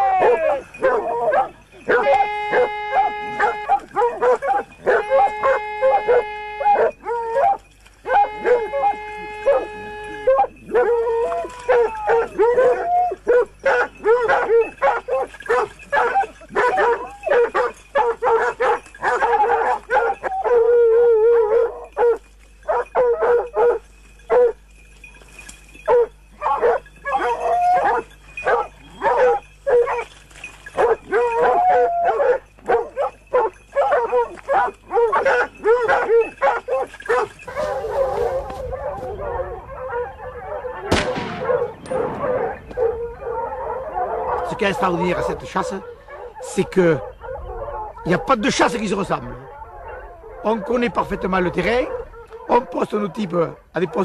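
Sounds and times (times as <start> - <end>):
hounds baying and barking: 0.0 - 54.0.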